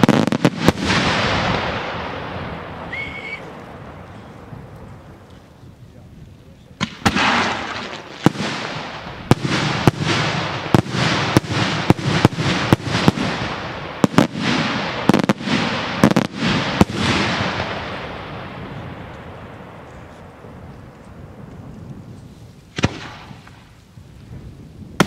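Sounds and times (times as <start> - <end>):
fireworks bangs with echoing rumble: 0.0 - 5.5, 6.8 - 23.8.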